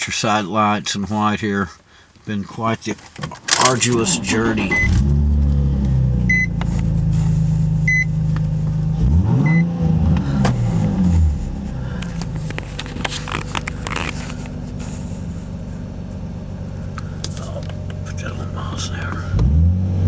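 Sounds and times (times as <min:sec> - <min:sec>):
car engine idling and revving: 0:03.5 - 0:20.0.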